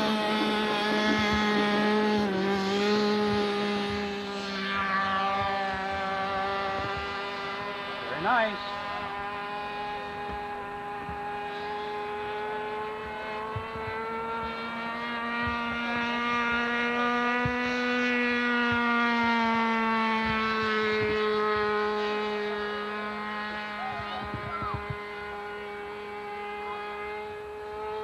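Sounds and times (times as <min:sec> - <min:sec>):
model plane engine buzzing: 0:00.0 - 0:28.0.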